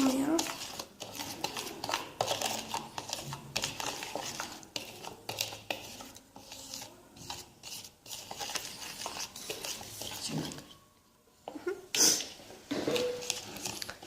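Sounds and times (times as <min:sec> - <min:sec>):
spoon stirring and scraping paste: 0:00.0 - 0:11.0, 0:11.9 - 0:14.0.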